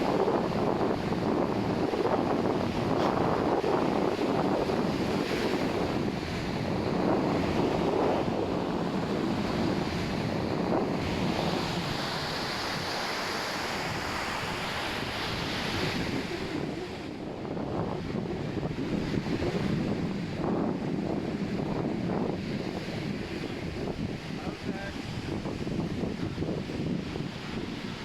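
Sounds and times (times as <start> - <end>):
sea waves breaking on sand: 0.0 - 28.0
wind buffeting microphone: 0.0 - 28.0.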